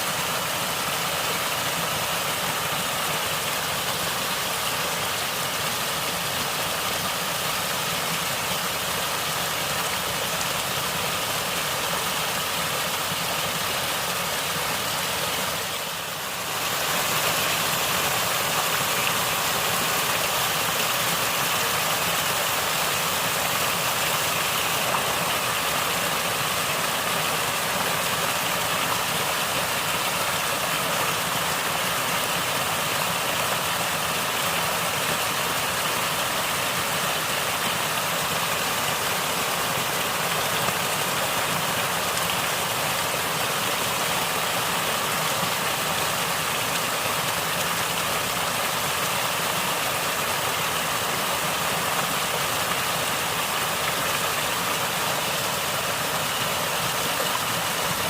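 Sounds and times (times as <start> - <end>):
water flowing and gurgling: 0.0 - 58.0.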